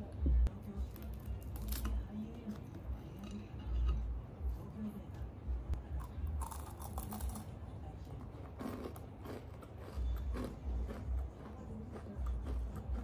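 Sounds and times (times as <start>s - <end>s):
cookie crunching: 0.5s - 3.9s, 5.8s - 13.0s.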